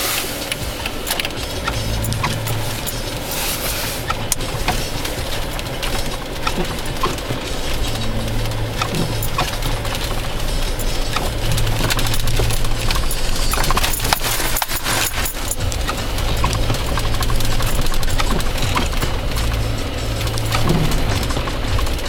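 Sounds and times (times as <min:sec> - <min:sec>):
car engine and road hum: 0:00.0 - 0:22.0
snow crackling under tyres: 0:00.0 - 0:22.0.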